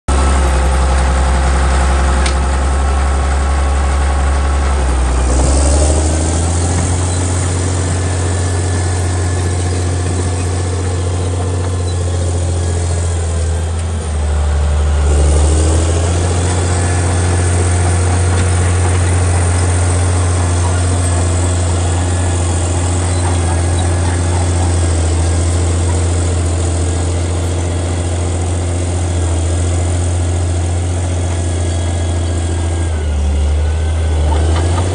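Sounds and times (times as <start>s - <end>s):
bulldozer diesel engine running: 0.1s - 34.9s.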